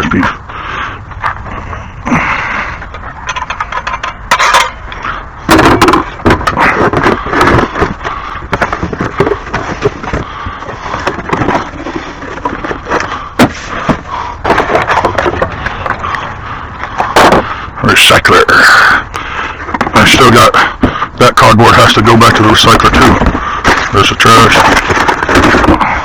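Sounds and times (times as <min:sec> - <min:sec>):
hard objects knocking and scraping: 0:02.8 - 0:17.6, 0:18.3 - 0:26.0.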